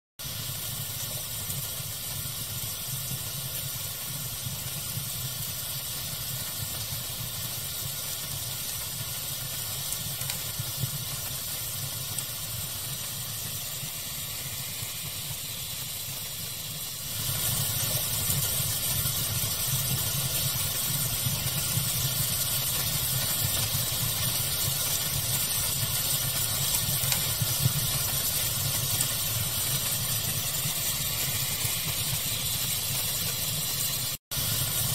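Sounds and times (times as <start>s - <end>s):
fire crackling and popping: 0.2s - 34.9s
pink noise hiss: 0.2s - 34.9s.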